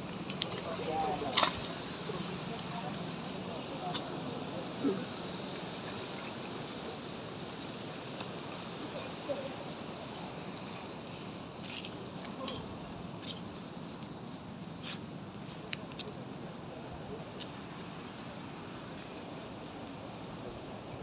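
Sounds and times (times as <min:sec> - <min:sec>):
crickets chirping: 0:00.0 - 0:21.0
steady hiss: 0:00.0 - 0:21.0.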